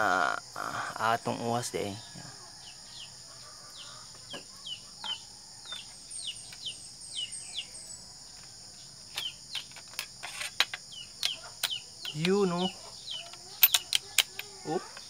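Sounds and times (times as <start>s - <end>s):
high-pitched insect drone: 0.0s - 15.0s
bird chirping: 1.2s - 15.0s.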